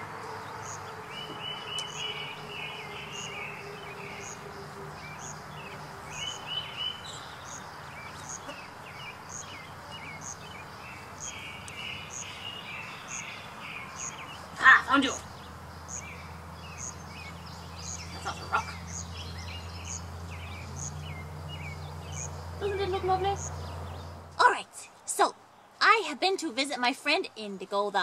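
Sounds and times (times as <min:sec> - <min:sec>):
birds chirping in trills: 0:00.0 - 0:25.8.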